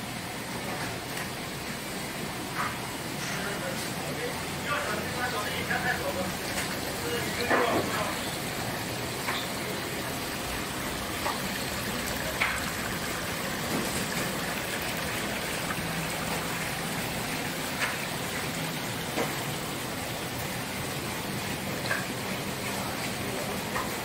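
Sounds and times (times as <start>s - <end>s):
water splashing and bubbling in tanks: 0.0s - 24.0s.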